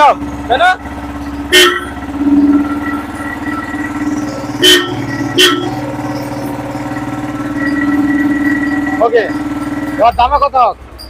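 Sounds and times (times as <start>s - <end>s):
motorcycle engine running: 0.0s - 11.0s
sharp exhaust cracks: 0.0s - 11.0s.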